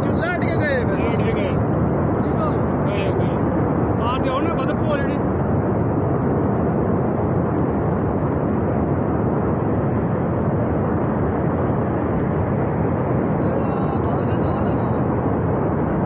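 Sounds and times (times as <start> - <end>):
landslide rumble: 0.0 - 16.0.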